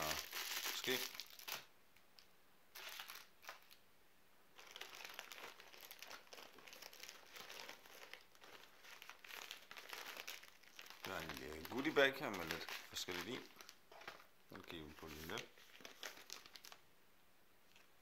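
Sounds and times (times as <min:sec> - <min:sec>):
plastic packaging crinkling: 0:00.0 - 0:01.7, 0:02.7 - 0:03.8, 0:04.6 - 0:16.8.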